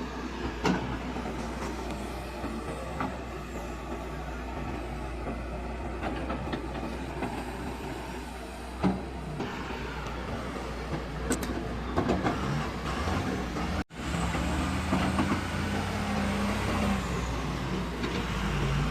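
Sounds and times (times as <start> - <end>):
heavy diesel engines: 0.0 - 18.9.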